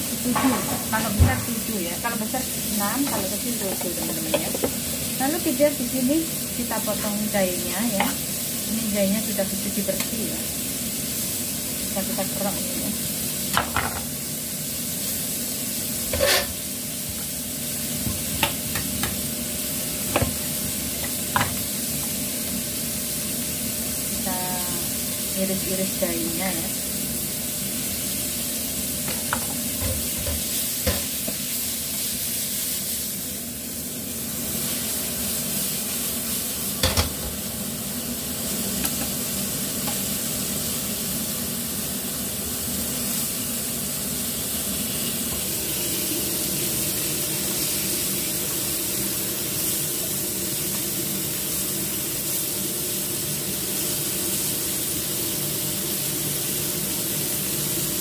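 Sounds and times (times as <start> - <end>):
mussels sizzling in oil: 0.0 - 58.0.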